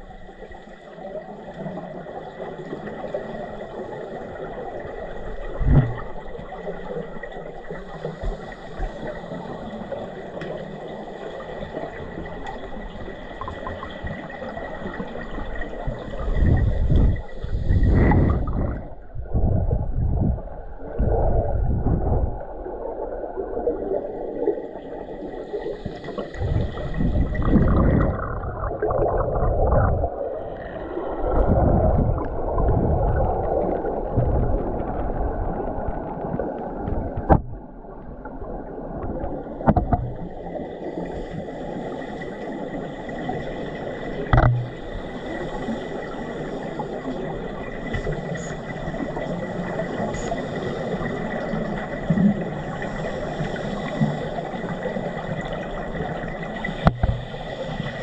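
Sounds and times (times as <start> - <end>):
underwater rumbling and swishing: 0.0 - 58.0.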